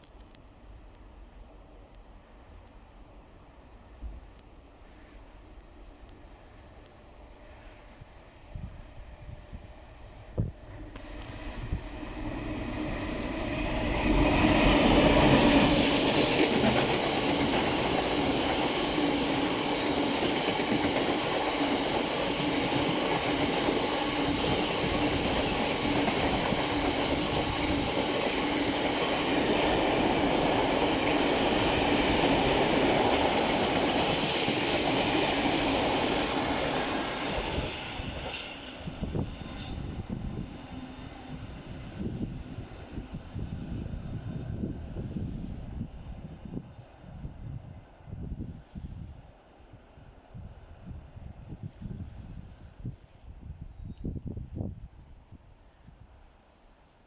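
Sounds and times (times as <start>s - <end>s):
train passing with wheel noise: 0.0s - 57.0s.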